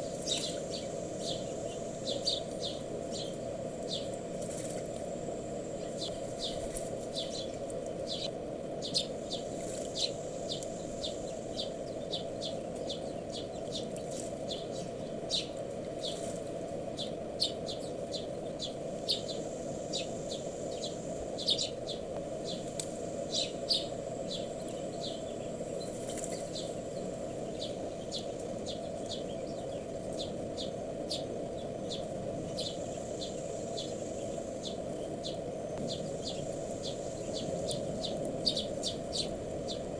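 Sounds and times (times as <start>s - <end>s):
low rushing background noise: 0.0s - 39.9s
small birds chirping: 0.0s - 39.9s.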